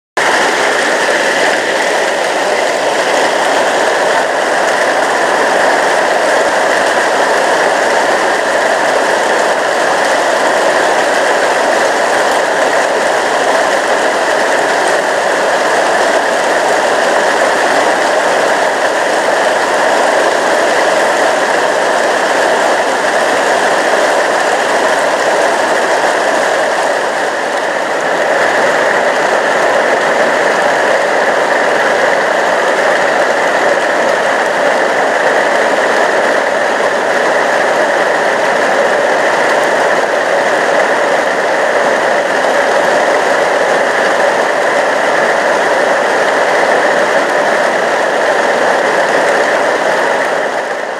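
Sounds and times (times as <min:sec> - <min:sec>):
rain falling on plants and paving: 0:00.2 - 0:50.9.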